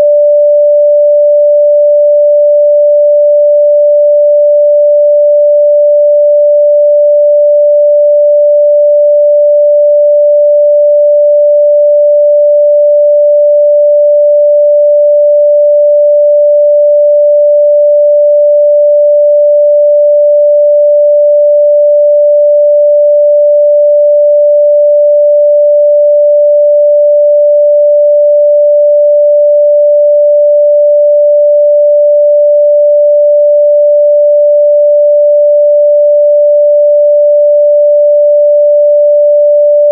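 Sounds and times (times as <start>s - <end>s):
sine test tone: 0.0s - 39.9s.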